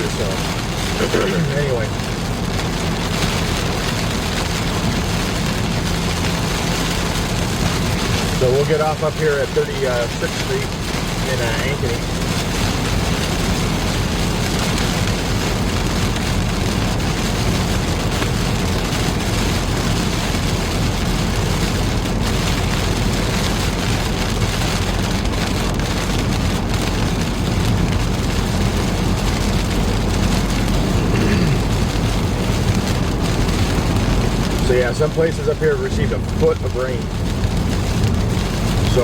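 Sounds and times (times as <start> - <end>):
low road rumble: 0.0 - 39.0
rain and tyre spray hiss: 0.0 - 39.0.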